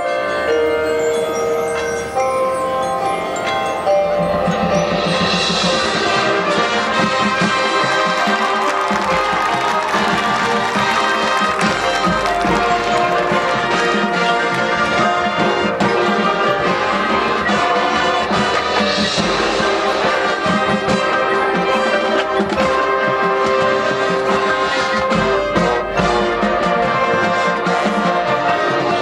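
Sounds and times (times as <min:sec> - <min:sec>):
marching band playing: 0:03.7 - 0:29.0.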